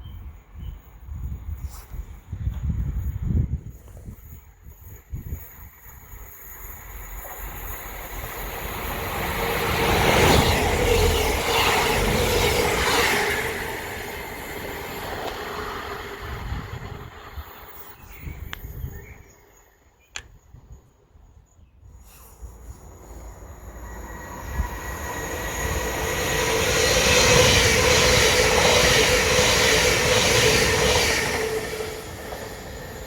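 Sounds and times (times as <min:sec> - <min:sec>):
train passing at speed: 0:00.0 - 0:20.0, 0:22.0 - 0:33.0.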